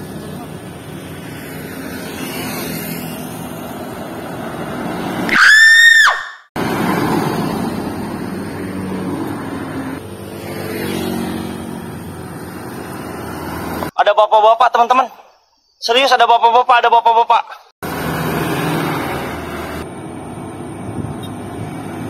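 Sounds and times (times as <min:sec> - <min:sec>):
road traffic passing: 0:00.0 - 0:14.0, 0:17.8 - 0:22.0.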